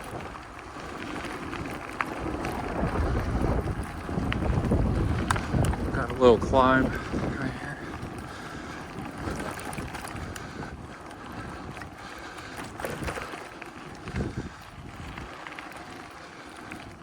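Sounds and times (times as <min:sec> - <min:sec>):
bicycle tyres crunching on gravel: 0:00.0 - 0:17.0
wind buffeting microphone: 0:00.0 - 0:17.0.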